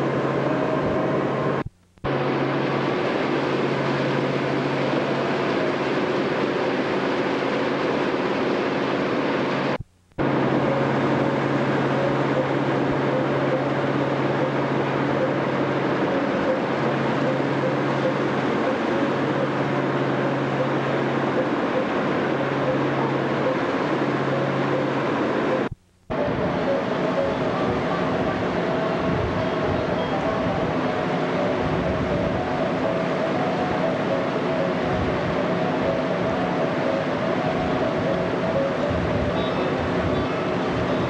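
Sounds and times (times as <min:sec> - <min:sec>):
boat engine drone: 0:00.0 - 0:41.0.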